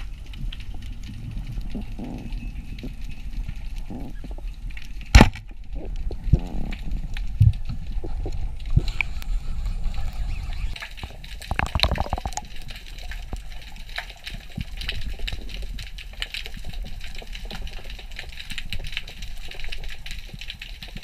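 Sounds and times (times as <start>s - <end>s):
underwater clicks and crackles: 0.0s - 21.0s
underwater rumble: 0.0s - 21.0s.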